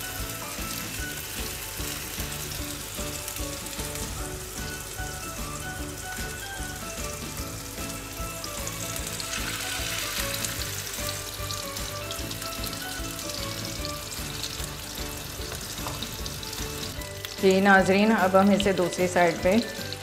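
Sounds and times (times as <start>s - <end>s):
background music melody: 0.0s - 20.0s
kebabs sizzling in a frying pan: 0.0s - 20.0s.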